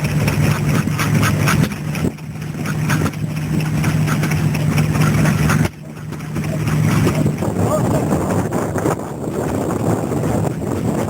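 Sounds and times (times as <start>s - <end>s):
stationary engine drone: 0.0s - 11.0s.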